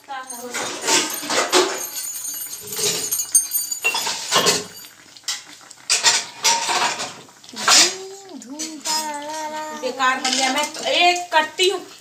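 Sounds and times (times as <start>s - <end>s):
metal pots clinking and clattering: 0.0s - 11.3s.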